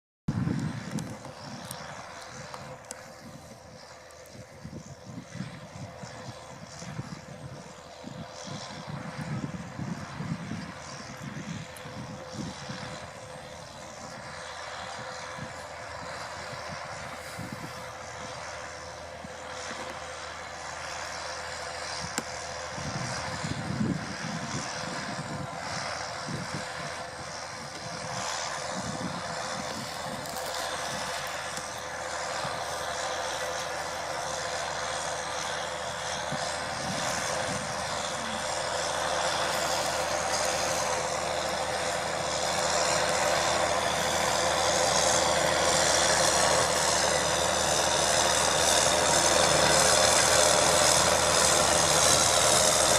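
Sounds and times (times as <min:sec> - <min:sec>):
tractor diesel engine under load: 0:00.3 - 0:52.9.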